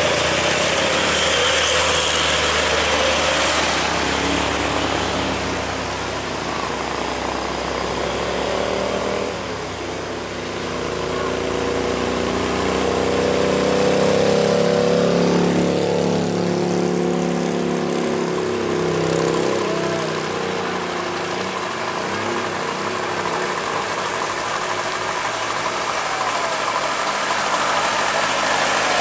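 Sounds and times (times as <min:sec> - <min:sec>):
diesel truck engines running: 0:00.0 - 0:29.0
tyres hissing on wet road: 0:00.0 - 0:29.0.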